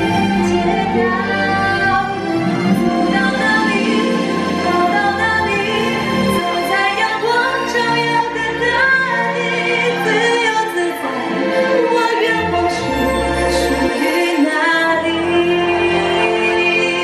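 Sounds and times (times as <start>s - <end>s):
choir singing: 0.0s - 17.0s
orchestral music: 0.0s - 17.0s.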